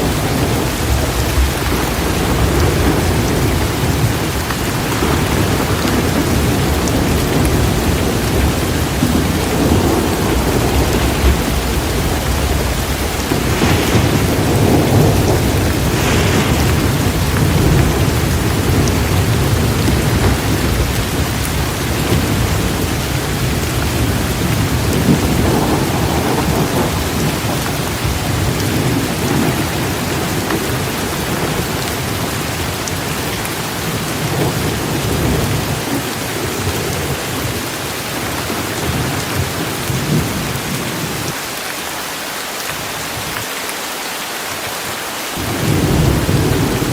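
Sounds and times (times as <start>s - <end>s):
rolling thunder: 0.0s - 41.4s, 45.4s - 46.9s
heavy rain pouring: 0.0s - 46.9s.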